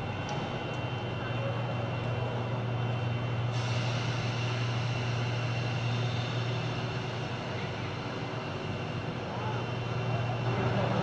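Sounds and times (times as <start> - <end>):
low drone with hiss: 0.0 - 11.0.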